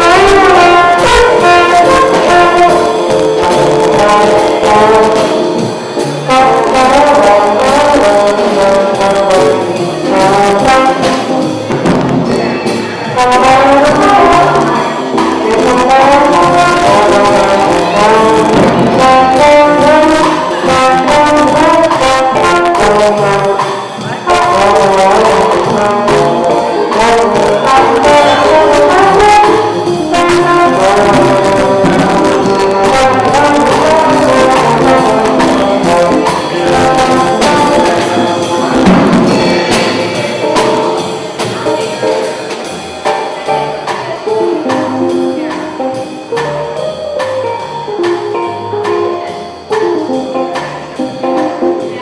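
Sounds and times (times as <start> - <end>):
drum kit: 0.0 - 52.0
electric keyboard: 0.0 - 52.0
saxophone melody: 0.0 - 52.0
upright bass: 0.0 - 52.0.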